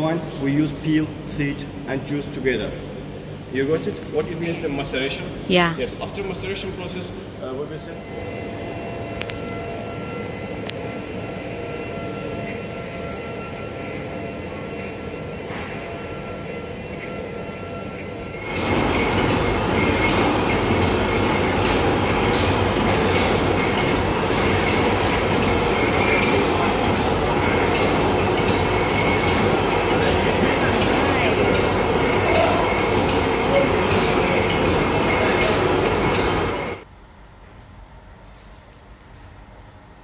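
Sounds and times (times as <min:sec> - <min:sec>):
mechanical noise with hum: 0:00.0 - 0:40.0.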